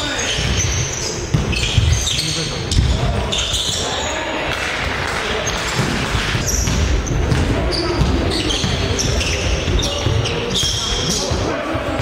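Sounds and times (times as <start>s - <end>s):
sneakers squeaking on floor: 0.0s - 4.3s, 5.3s - 12.0s.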